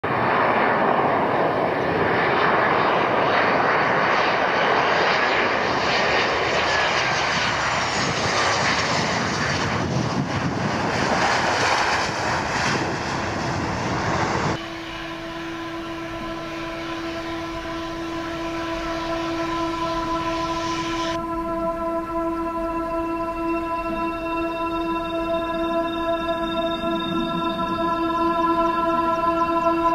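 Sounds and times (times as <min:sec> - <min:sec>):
jet engines roaring: 0:00.0 - 0:29.9
jet engines whining at low power: 0:00.0 - 0:29.9.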